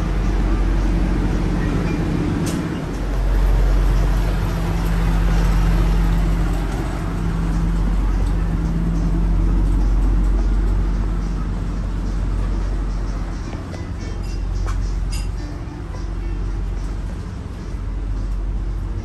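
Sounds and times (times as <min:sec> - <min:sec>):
diesel railcar engine idling: 0:00.0 - 0:19.0.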